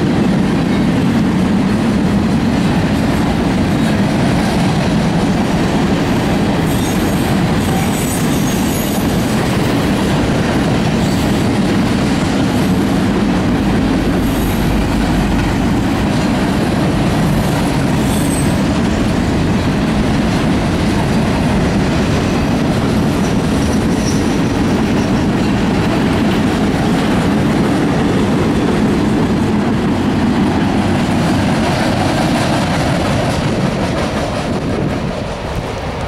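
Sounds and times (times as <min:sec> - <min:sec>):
freight train wheels on rails: 0:00.0 - 0:36.0.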